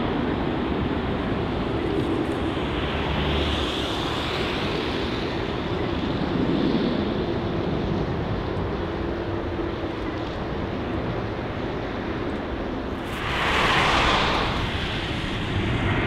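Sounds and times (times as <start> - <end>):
jet engine rumble with whine: 0.0 - 16.0.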